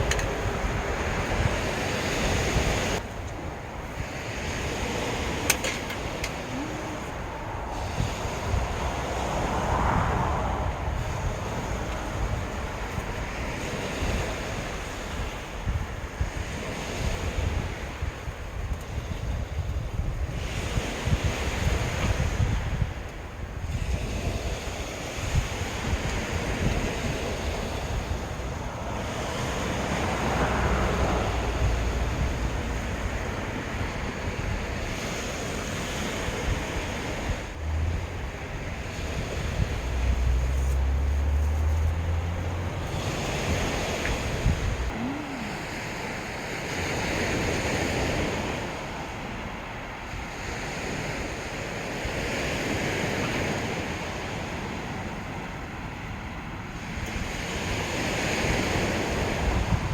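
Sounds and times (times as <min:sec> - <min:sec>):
waves washing onto beach: 0:00.0 - 0:59.9
wind buffeting microphone: 0:00.0 - 0:59.9.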